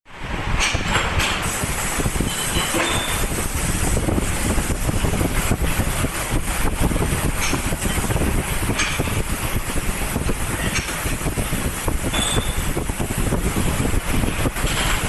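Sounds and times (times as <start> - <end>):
laser welding machine running: 1.4 - 15.0.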